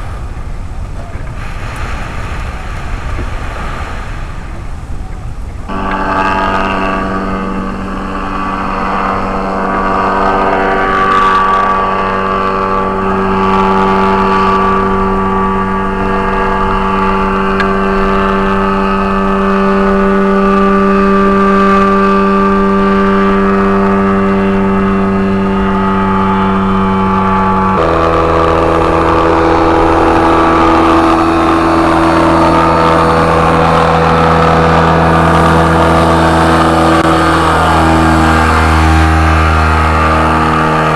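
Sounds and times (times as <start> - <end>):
two-stroke engine running: 5.7 - 40.9.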